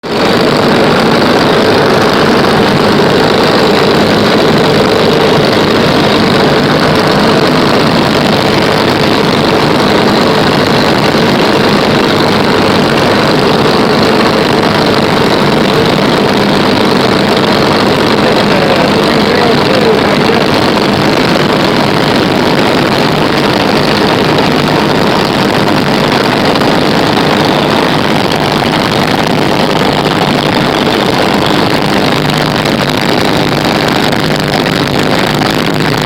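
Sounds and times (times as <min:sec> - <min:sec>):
light aircraft engine droning: 0:00.0 - 0:36.0.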